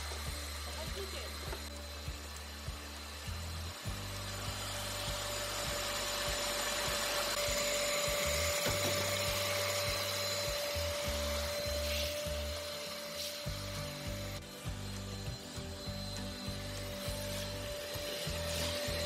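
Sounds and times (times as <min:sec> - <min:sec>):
nozzle sucking ash: 0:00.0 - 0:19.0
vacuum motor whining: 0:00.0 - 0:19.0.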